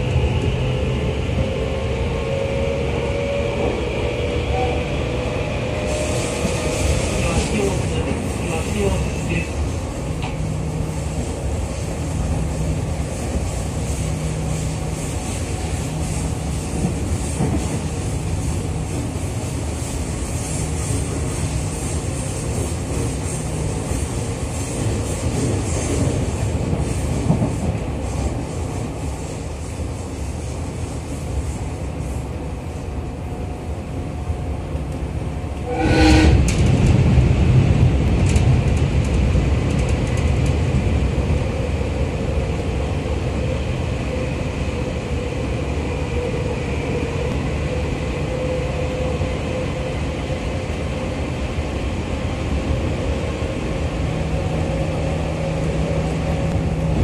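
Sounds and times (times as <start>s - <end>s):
wheels rumbling on rails: 0.0s - 57.0s.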